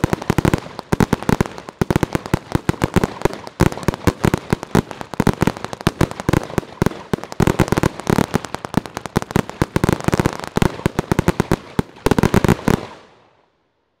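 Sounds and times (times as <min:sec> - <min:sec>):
firework sharp bangs: 0:00.0 - 0:13.1
firework crackle: 0:00.0 - 0:13.4.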